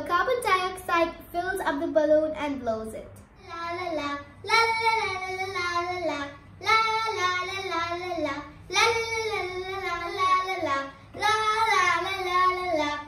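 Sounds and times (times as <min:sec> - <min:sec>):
girl singing wordless phrases: 0:00.0 - 0:13.0.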